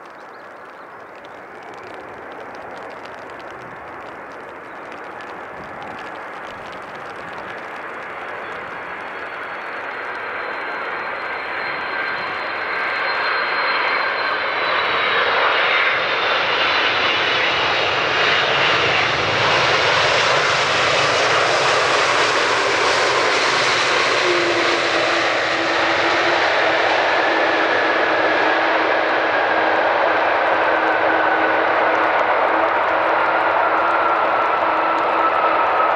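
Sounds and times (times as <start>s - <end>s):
jet engines whining and rumbling: 0.0s - 35.9s.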